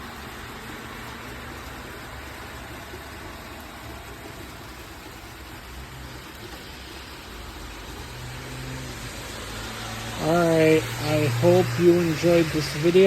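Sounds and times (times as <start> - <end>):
steady rain hissing: 0.0 - 13.0.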